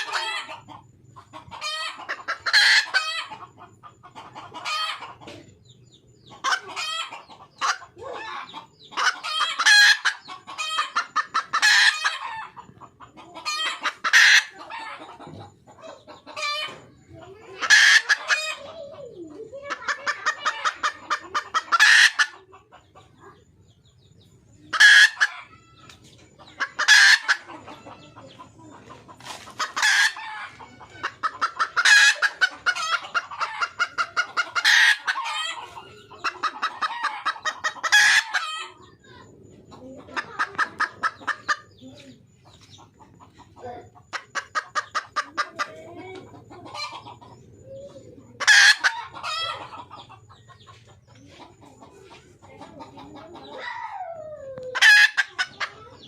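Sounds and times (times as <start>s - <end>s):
hen cackling calls: 0.0s - 5.3s, 6.3s - 22.6s, 24.7s - 50.8s, 51.4s - 56.0s
hen clucking: 0.0s - 56.0s.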